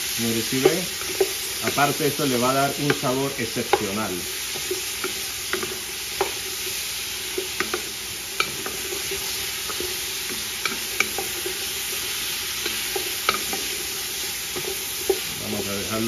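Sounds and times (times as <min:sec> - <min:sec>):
vegetables sizzling in oil: 0:00.0 - 0:16.0
wooden spoon scraping a pot: 0:00.1 - 0:16.0.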